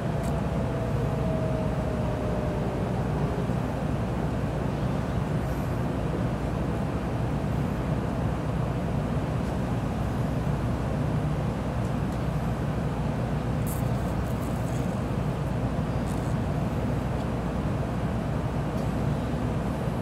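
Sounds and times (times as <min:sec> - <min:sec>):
train running low rumble: 0:00.0 - 0:20.0.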